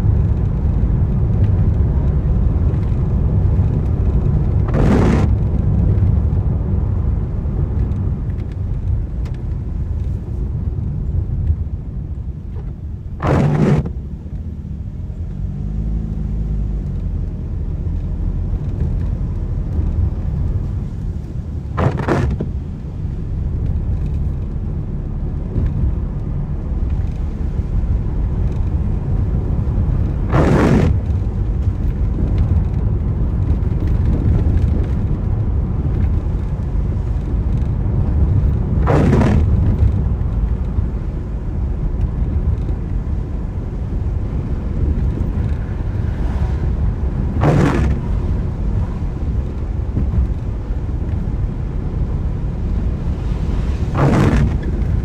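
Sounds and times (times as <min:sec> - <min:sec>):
car driving in rain: 0:00.0 - 0:55.0
windscreen wiper swishes: 0:00.1 - 0:14.1, 0:15.6 - 0:55.0.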